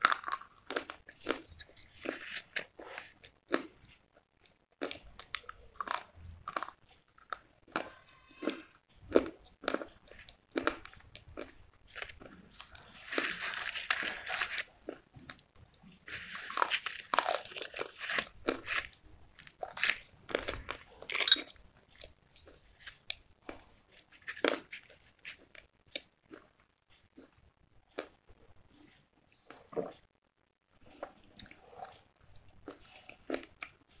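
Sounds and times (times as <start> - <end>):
slate pencils being chewed: 0.0 - 30.1, 30.8 - 34.0.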